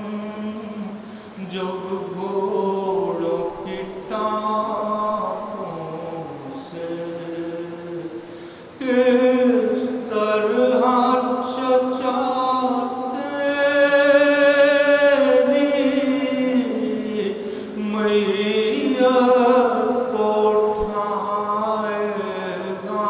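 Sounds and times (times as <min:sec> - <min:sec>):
man chanting into a microphone: 0:00.0 - 0:23.0.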